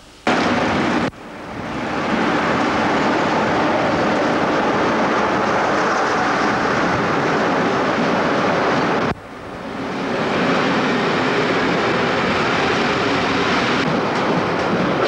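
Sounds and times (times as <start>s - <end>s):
diesel locomotive passing: 0.3s - 15.0s.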